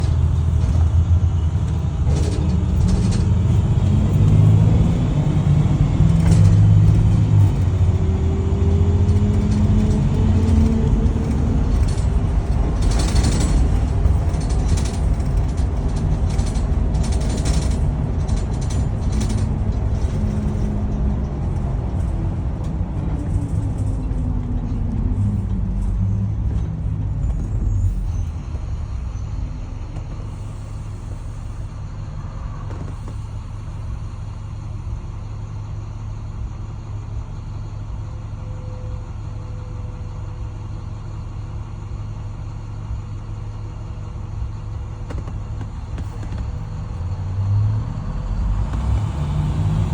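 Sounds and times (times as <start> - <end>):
rattles and knocks: 0.0 - 35.0, 44.4 - 49.9
bus low rumble: 0.0 - 49.9
rear axle whine: 0.0 - 49.9.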